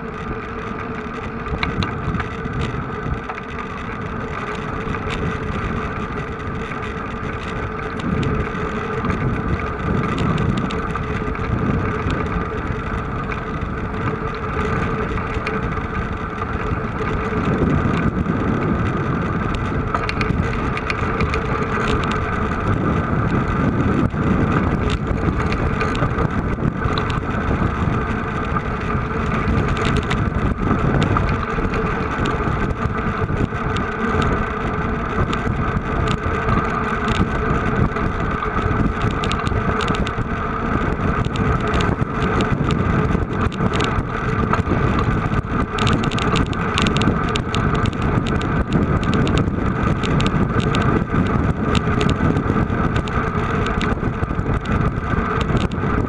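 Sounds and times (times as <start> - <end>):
vehicle engine running: 0.0 - 56.0
wind buffeting microphone: 0.0 - 56.0.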